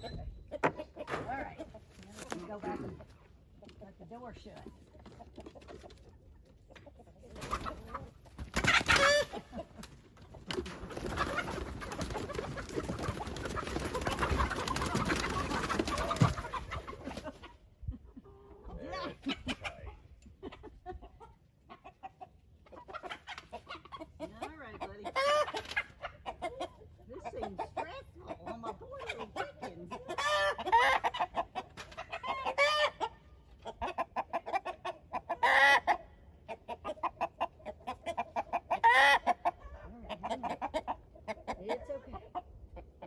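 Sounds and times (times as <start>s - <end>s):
young chickens clucking: 0.0s - 43.0s.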